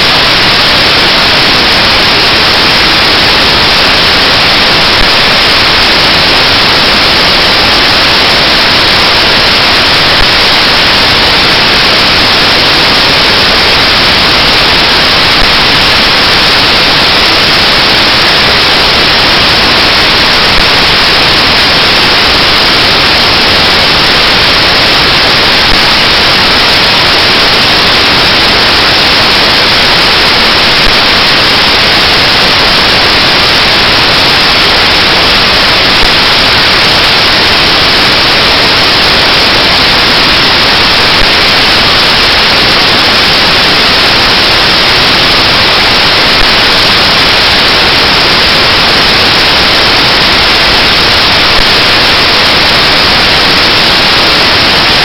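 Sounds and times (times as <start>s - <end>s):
loud static hiss: 0.0s - 55.0s.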